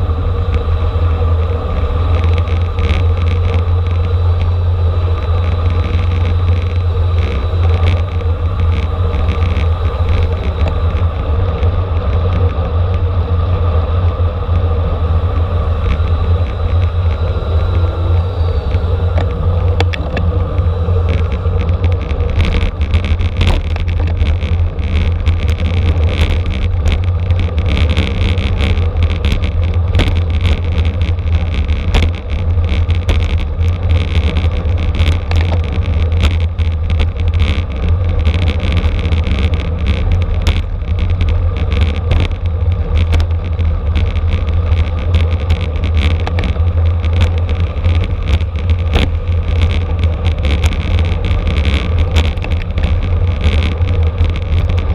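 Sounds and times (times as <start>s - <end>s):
heavy low rumble: 0.0s - 54.9s
wind rush: 0.0s - 54.9s
small rattles and clicks: 0.4s - 54.9s.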